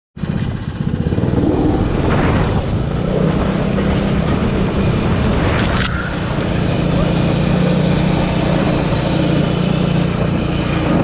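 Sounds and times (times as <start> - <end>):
snowmobile engine running: 0.2 - 11.0.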